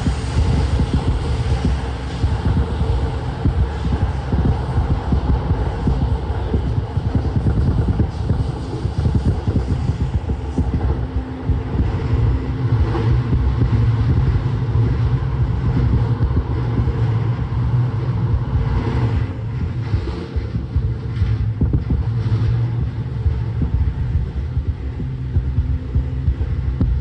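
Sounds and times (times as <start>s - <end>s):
train clatter: 0.0s - 27.0s
train rumble and hum: 0.0s - 27.0s.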